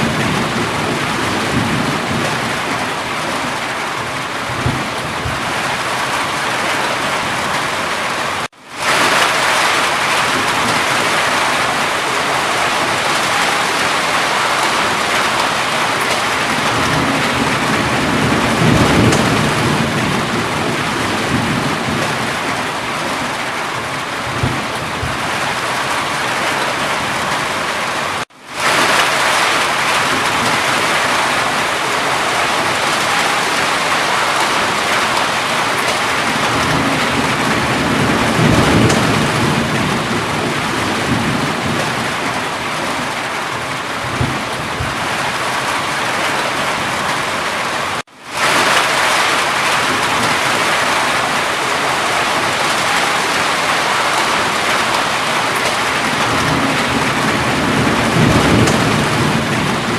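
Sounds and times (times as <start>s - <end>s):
distant thunder rumble: 0.0s - 7.9s, 8.8s - 27.6s, 28.6s - 47.3s, 48.4s - 59.9s
heavy rain falling: 0.0s - 59.9s.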